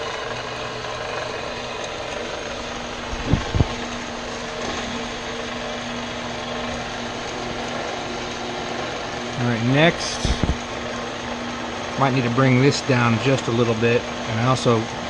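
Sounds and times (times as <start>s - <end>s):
bandsaw running: 0.0s - 15.0s.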